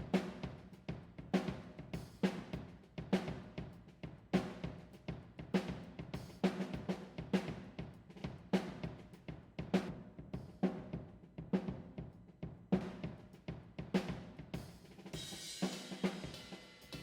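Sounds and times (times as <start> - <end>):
drum kit groove: 0.0 - 17.0.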